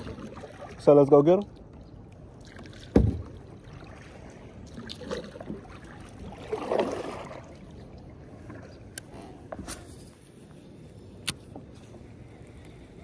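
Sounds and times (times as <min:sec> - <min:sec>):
paddle strokes through water: 0:00.0 - 0:10.9.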